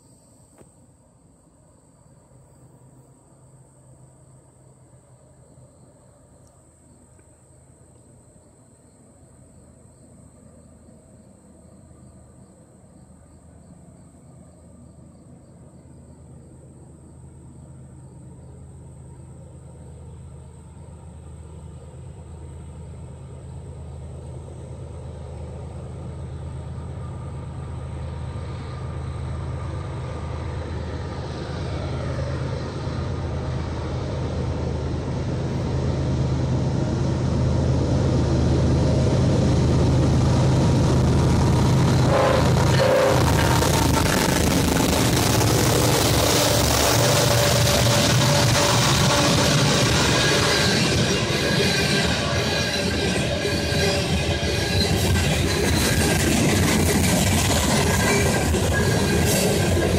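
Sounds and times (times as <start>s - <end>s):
diesel locomotive engines droning: 0.0s - 59.9s.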